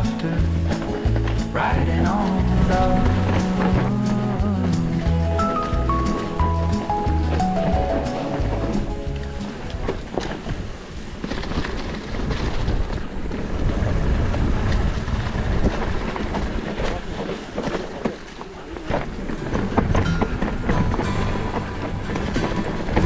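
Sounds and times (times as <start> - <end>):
wheels rolling over rough trail: 0.0 - 23.0
wind buffeting microphone: 0.0 - 23.0.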